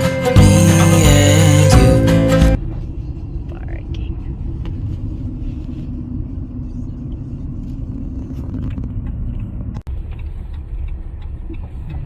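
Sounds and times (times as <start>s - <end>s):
car rumbling in motion: 0.0s - 12.0s.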